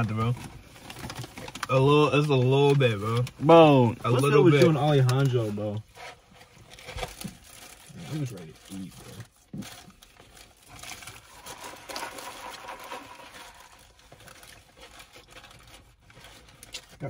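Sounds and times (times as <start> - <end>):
paper wrappers crinkling: 0.0 - 3.4, 6.4 - 17.0.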